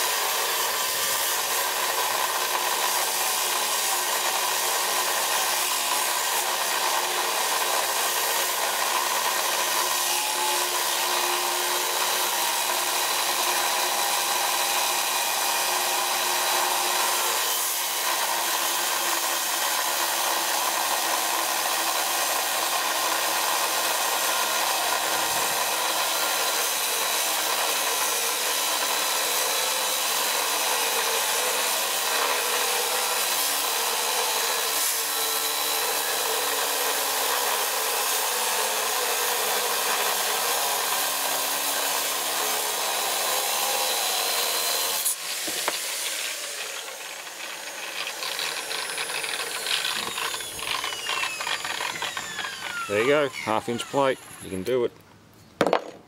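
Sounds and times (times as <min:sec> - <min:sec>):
angle grinder cutting steel: 0:00.0 - 0:54.9.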